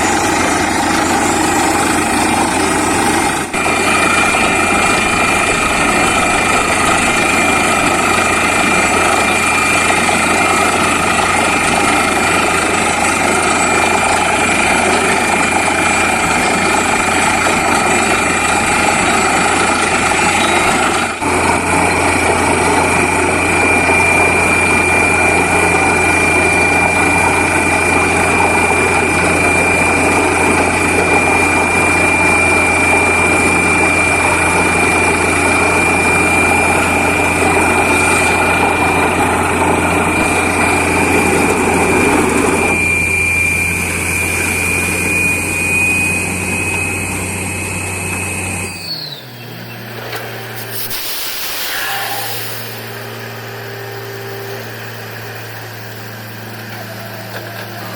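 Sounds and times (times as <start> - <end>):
drilling rig whining: 0.0 - 57.9.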